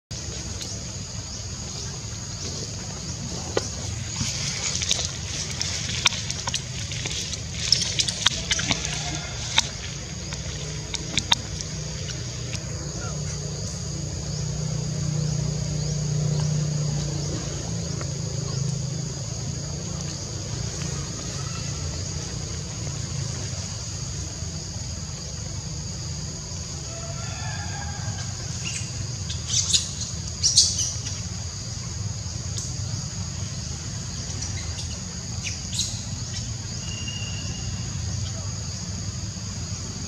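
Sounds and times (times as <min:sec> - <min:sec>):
high insect drone: 0:00.1 - 0:40.0
low background rumble: 0:00.1 - 0:40.0.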